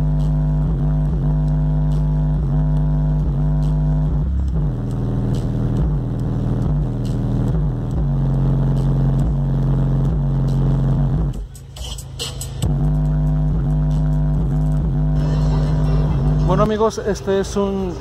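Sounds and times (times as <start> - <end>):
bass-heavy electronic music: 0.0 - 18.0.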